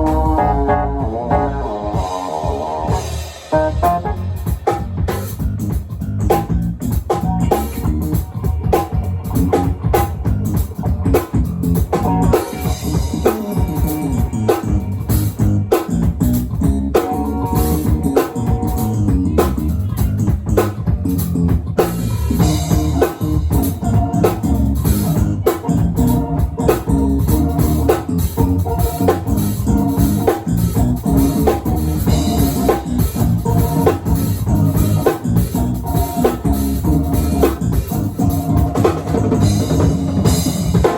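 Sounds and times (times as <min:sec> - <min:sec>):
live jazz-funk band playing: 0:00.0 - 0:40.9.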